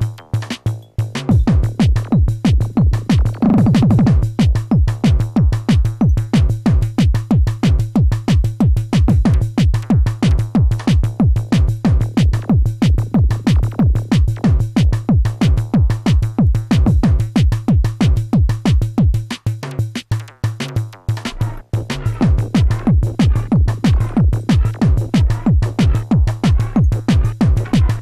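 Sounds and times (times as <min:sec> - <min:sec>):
drum machine hits: 0:00.0 - 0:28.0.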